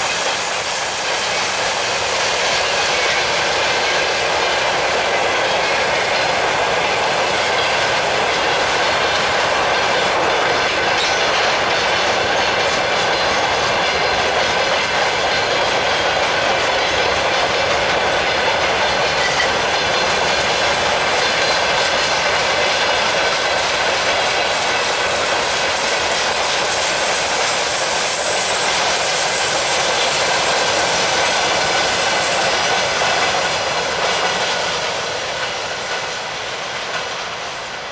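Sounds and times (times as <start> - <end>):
freight train rolling rumble: 0.0 - 37.9
wheel clacks over rail joints: 2.2 - 37.3.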